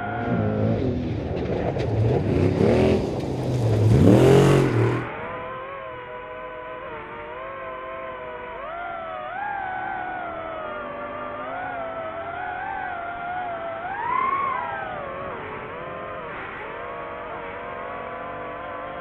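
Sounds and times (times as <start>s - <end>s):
race truck engine revving: 0.0s - 19.0s.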